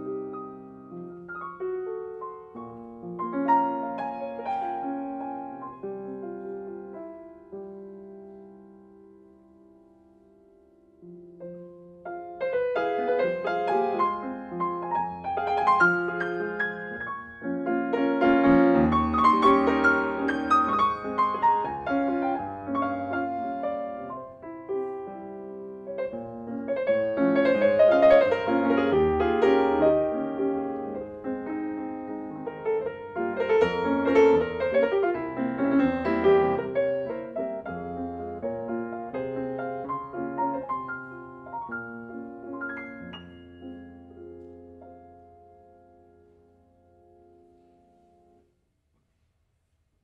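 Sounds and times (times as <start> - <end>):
solo classical piano piece: 0.0 - 50.0.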